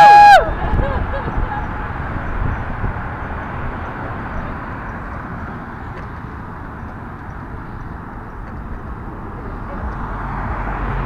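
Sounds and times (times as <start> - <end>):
road traffic passing: 0.0 - 11.0
wind buffeting microphone: 0.3 - 11.0.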